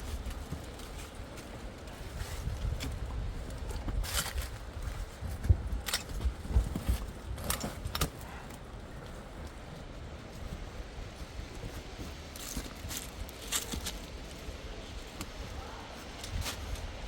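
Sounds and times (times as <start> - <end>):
footsteps: 0.0 - 17.0
rustling: 0.0 - 17.0
wind buffeting microphone: 0.0 - 17.0.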